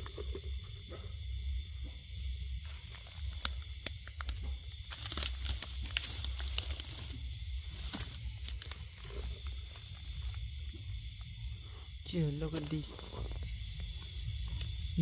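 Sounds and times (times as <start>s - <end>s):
dry plant material crinkling: 2.6s - 15.0s.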